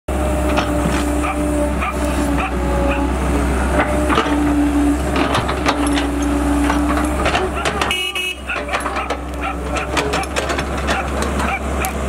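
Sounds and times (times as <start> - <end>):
excavator diesel engine running: 0.1 - 12.0
bucket and tracks clanking in mud: 0.4 - 3.1, 3.7 - 12.0.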